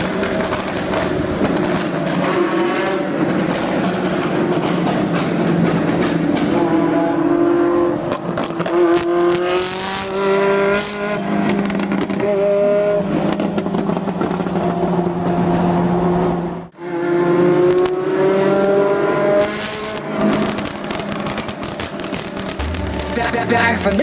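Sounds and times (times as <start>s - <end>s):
sports car engine accelerating: 0.0s - 24.0s.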